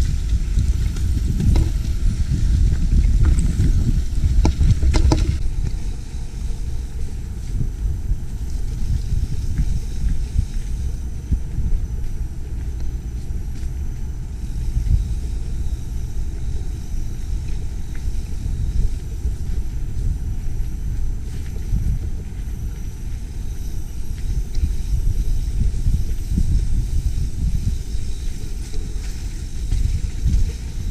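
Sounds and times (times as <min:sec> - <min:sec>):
bike tyres jolting on dirt: 0:00.0 - 0:11.7, 0:12.6 - 0:30.9
wind buffeting microphone: 0:00.0 - 0:30.9.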